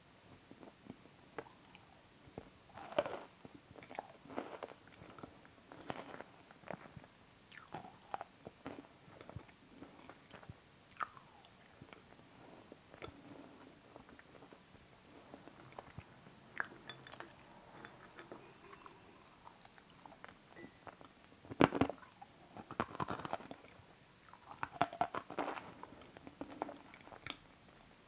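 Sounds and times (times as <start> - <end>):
person chewing crunchy food: 1.4 - 12.2, 12.9 - 27.4.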